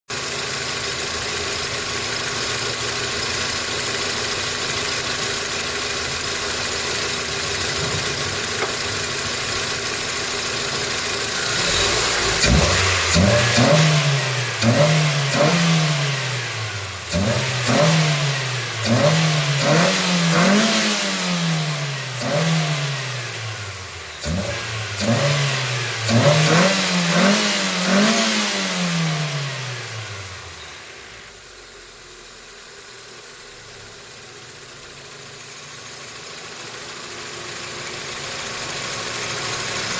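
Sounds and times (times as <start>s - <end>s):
car engine idling and revving: 0.1s - 39.9s.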